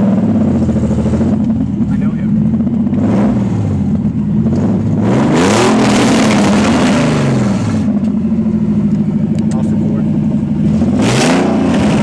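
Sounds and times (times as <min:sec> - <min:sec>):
loud car engine revving: 0:00.0 - 0:12.0.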